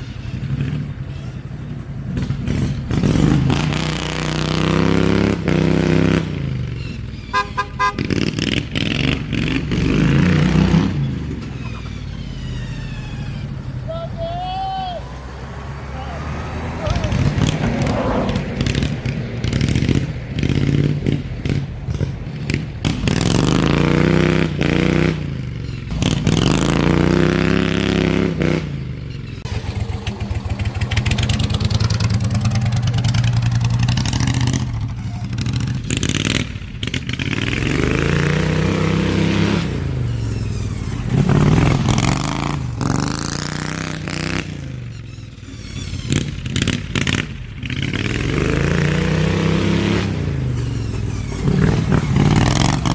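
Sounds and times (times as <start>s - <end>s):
riding mower engine revving: 0.0s - 14.2s, 15.0s - 52.9s.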